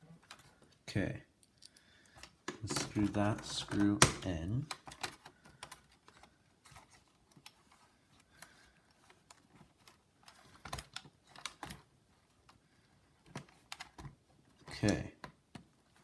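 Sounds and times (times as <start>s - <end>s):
plastic and metal parts handled: 1.6s - 16.0s.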